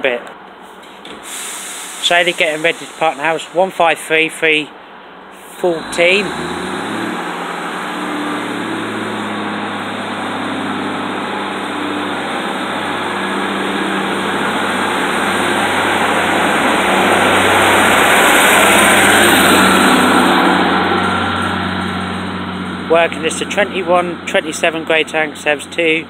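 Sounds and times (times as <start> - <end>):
diesel train engine humming: 0.8 - 26.0.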